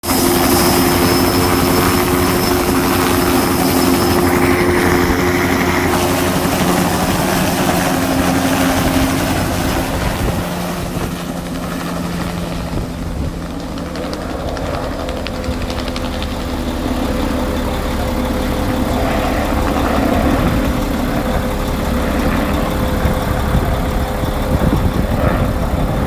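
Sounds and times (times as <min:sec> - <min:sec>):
helicopter engine whine: 0:00.0 - 0:26.0
helicopter rotor beat: 0:00.0 - 0:26.0.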